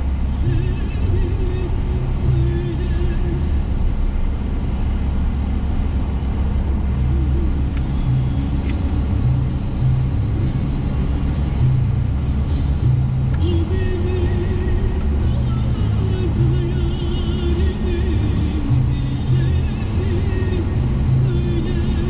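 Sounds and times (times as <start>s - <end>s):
music from car radio: 0.0s - 4.4s, 6.8s - 22.0s
car cabin road and engine rumble: 0.0s - 22.0s.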